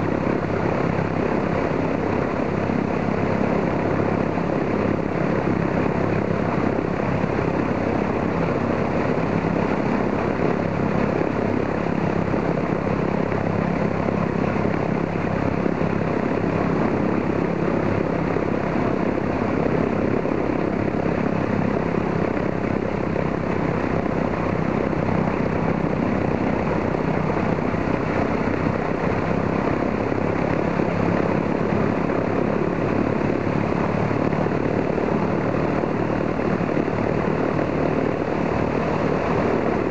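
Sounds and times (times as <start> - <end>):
radial aircraft engine idling: 0.0 - 39.9.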